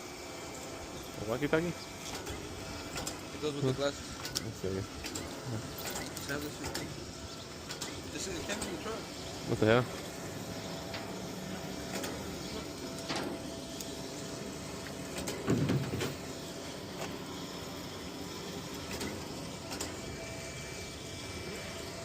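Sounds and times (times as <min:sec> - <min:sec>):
electric winch motor whine: 0:00.0 - 0:22.0.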